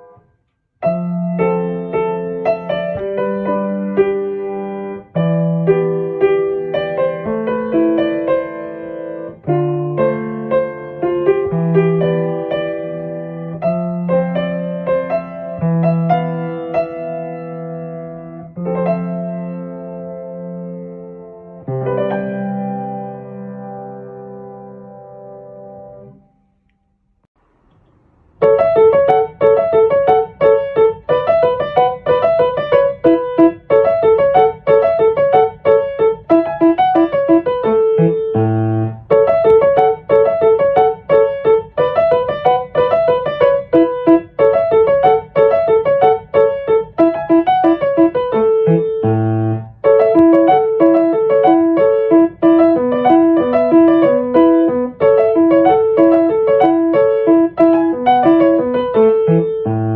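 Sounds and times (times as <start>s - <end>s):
electric piano melody: 0.0s - 26.2s, 28.4s - 59.9s.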